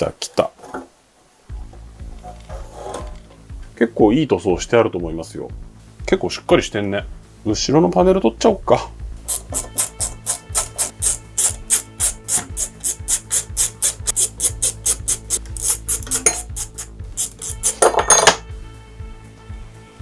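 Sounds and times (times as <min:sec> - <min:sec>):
quiet background music: 0:00.0 - 0:20.0.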